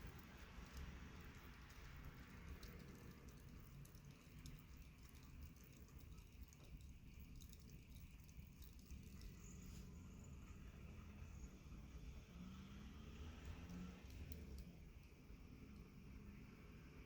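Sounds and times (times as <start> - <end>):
faint low room hum: 0.0 - 17.0
small irregular clicks: 0.0 - 17.0.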